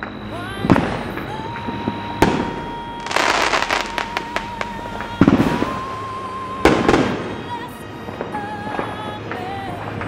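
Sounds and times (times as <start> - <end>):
firework reports: 0.0 - 10.0
fireworks crackling: 0.0 - 10.0.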